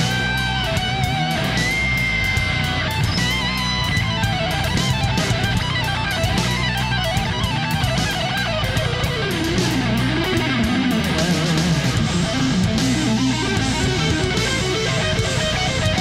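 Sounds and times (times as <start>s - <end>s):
instrumental music with wavering melody: 0.0s - 16.0s.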